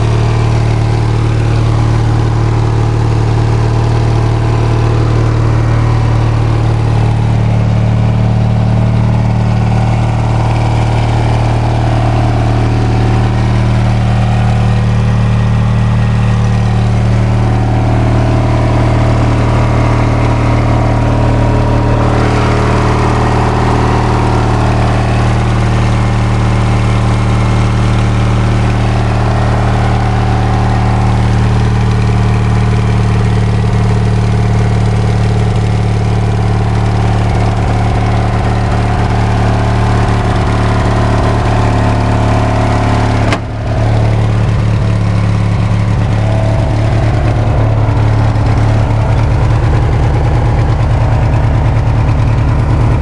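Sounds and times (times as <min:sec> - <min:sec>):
lawnmower engine idling: 0:00.0 - 0:53.0.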